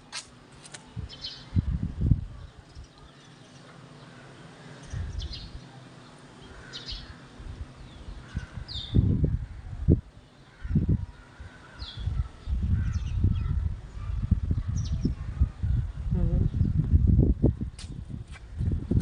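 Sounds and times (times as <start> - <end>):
small birds chirping: 0.7 - 17.0
wind buffeting microphone: 0.8 - 3.1, 4.8 - 5.6, 6.5 - 19.0.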